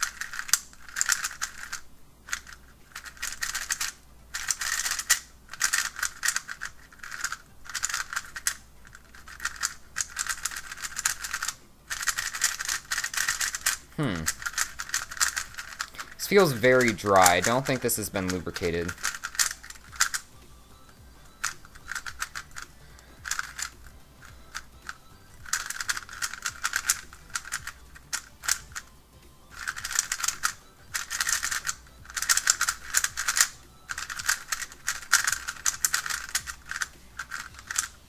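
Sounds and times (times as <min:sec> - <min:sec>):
puzzle cube clicking: 0:00.0 - 0:38.0.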